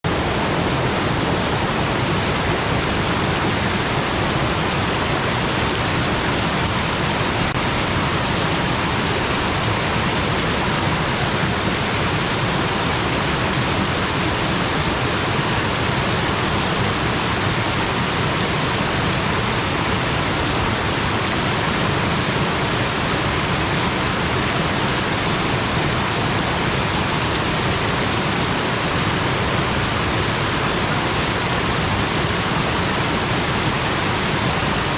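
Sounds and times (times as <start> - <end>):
waterfall rushing over rocks: 0.0 - 34.9.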